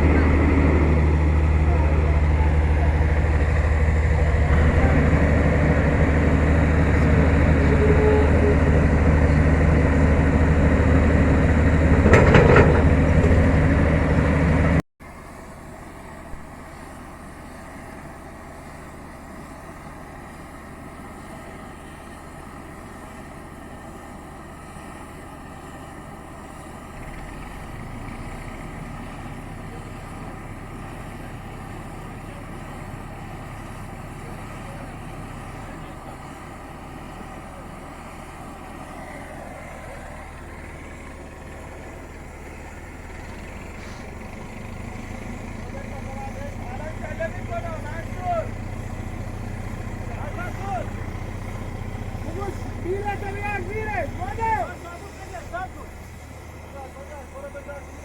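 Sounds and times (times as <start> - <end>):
distant engine drone: 0.0 - 58.0
heavy diesel engine running: 0.0 - 58.0.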